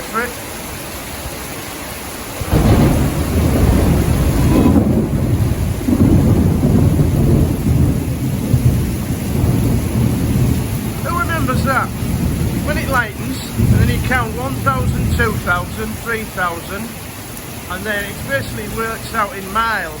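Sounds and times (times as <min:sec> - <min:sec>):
heavy rain hissing: 0:00.0 - 0:20.0
thunder rumbling: 0:02.3 - 0:20.0.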